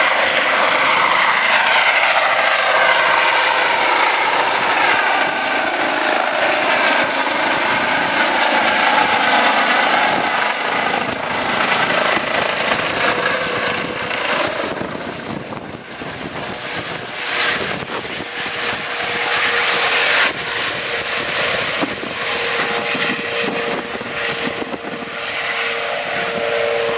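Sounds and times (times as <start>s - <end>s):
helicopter high whining tones: 0.0s - 26.9s
helicopter rotor rushing: 0.0s - 26.9s.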